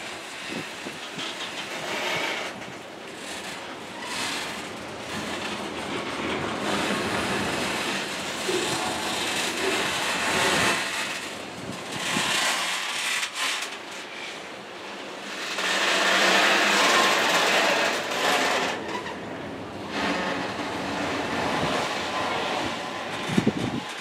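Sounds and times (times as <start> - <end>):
freight train wheels rattling on rails: 0.0 - 24.0.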